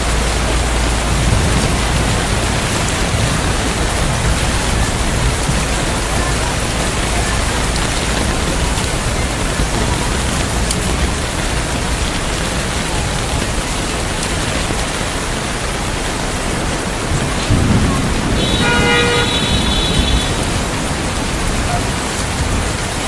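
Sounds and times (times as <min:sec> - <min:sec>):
heavy rain falling: 0:00.0 - 0:23.0
thunder rumble: 0:00.0 - 0:23.0.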